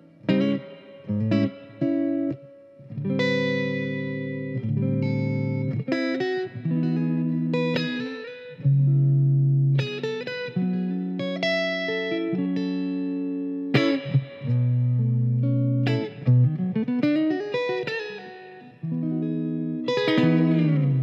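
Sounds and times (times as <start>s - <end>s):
clean electric guitar chords: 0.0s - 21.0s.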